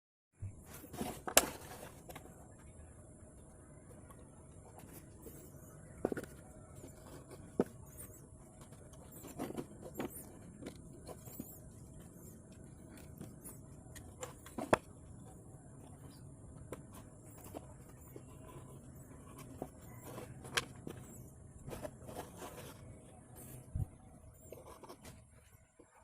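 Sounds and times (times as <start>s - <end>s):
faint background noise: 0.4s - 26.0s.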